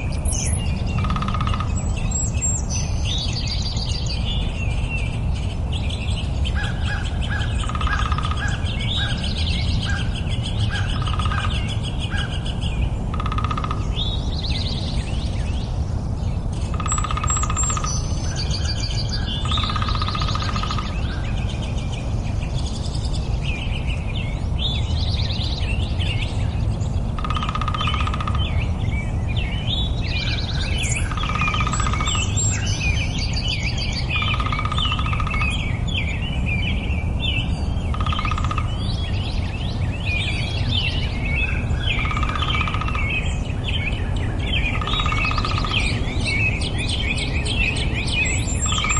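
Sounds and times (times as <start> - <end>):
songbirds chirping and warbling: 0.0 - 48.9.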